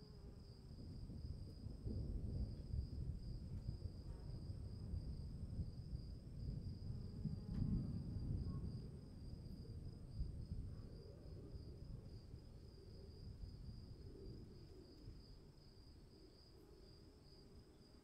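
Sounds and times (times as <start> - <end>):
low storm rumble: 0.4 - 15.9.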